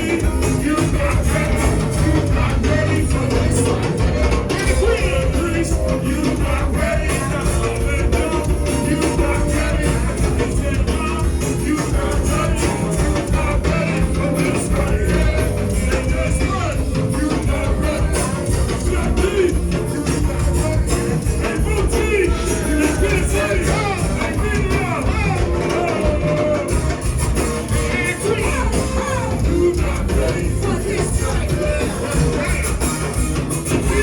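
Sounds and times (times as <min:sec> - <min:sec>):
heavy bass and drums: 0:00.0 - 0:34.0
live band playing: 0:00.0 - 0:34.0
person singing: 0:00.0 - 0:34.0.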